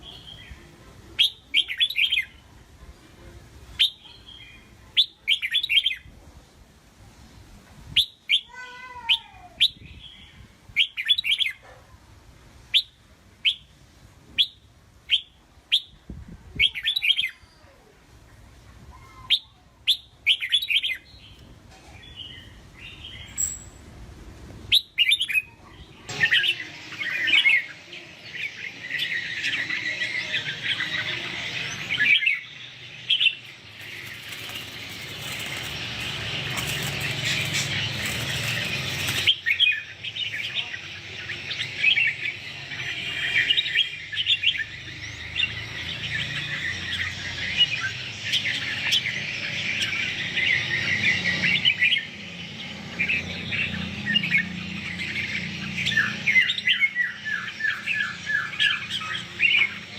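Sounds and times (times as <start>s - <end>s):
birds chirping song: 0.0s - 2.4s, 8.0s - 11.7s, 14.4s - 23.9s, 24.7s - 59.9s.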